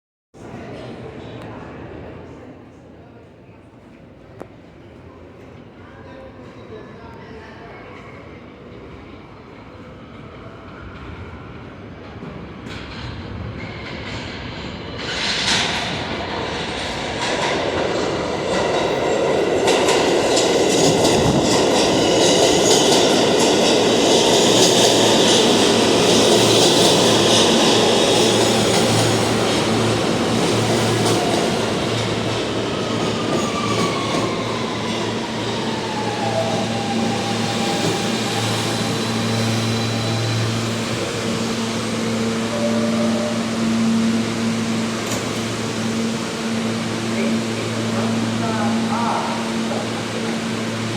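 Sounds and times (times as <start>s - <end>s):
subway train wheels on rails: 0.4s - 50.9s
train steady hum: 0.4s - 50.9s.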